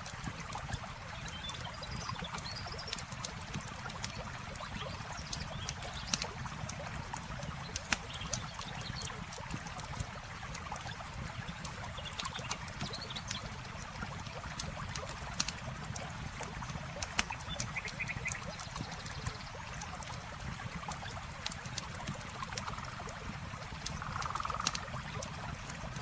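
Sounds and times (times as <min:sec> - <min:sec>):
flowing river water: 0:00.0 - 0:26.0
campfire crackling: 0:02.7 - 0:26.0.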